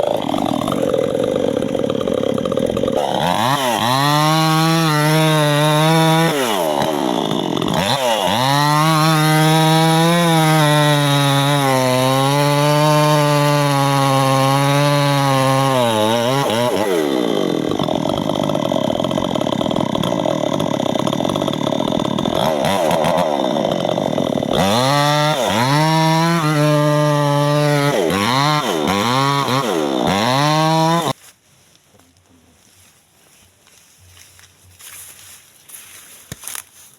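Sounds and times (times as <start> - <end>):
chainsaw cutting wood: 0.0 - 31.2.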